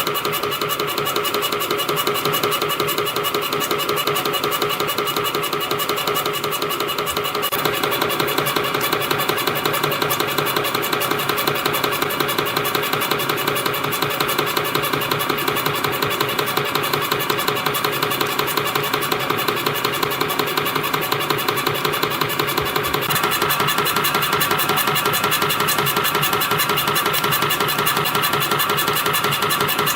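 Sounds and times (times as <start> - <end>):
spring coiling machine clatter: 0.0 - 29.9.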